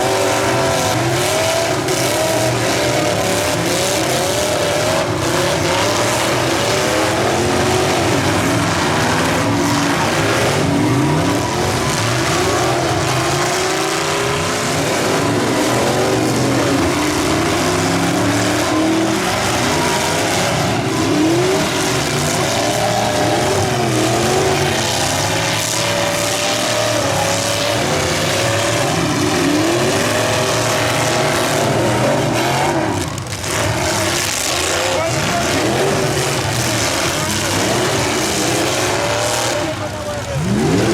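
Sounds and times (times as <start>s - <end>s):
car engines revving hard: 0.0s - 40.9s.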